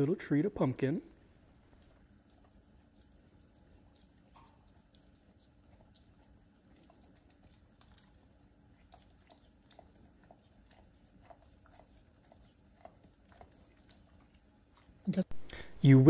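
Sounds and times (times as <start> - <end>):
dog licking and smacking: 1.1 - 15.4.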